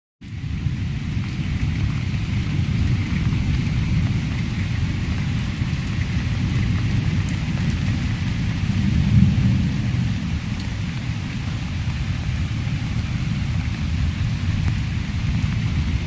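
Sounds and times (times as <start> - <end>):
steady rain: 0.2 - 16.0.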